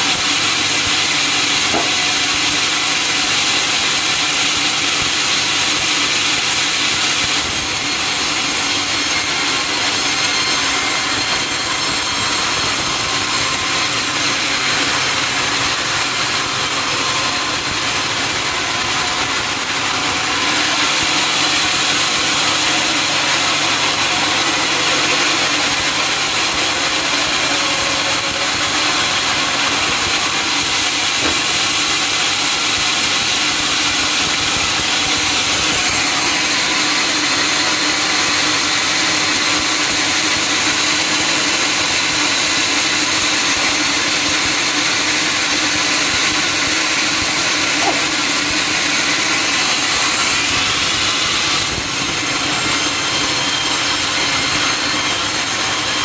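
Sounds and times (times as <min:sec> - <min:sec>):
sawmill saw and engine running: 0:00.0 - 0:56.0.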